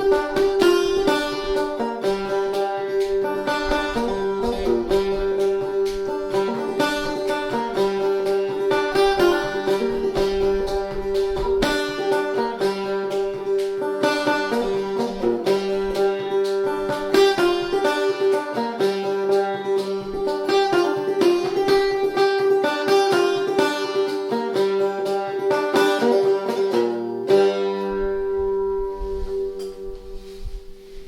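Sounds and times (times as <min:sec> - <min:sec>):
banjo playing: 0:00.0 - 0:31.0.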